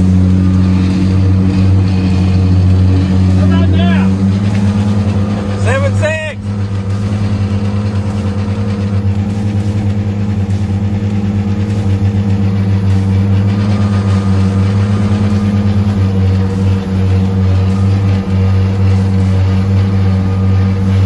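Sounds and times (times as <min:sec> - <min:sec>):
outboard motors droning: 0:00.0 - 0:21.0.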